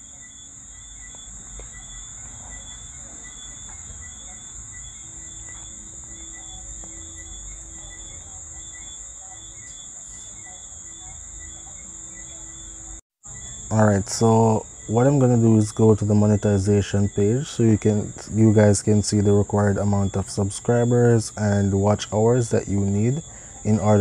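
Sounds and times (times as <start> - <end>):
high-pitched whine: 0.0 - 24.0
low hum: 0.0 - 24.0.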